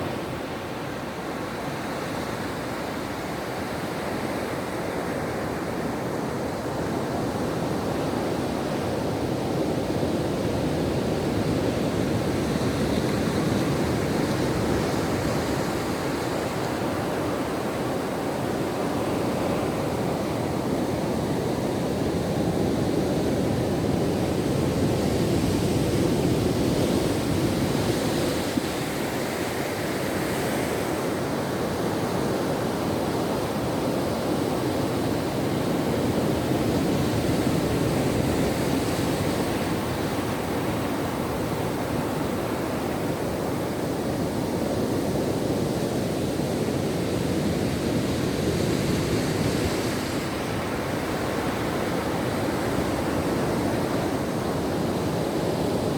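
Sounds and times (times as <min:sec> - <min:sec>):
ocean waves breaking on shore: 0:00.0 - 0:55.9.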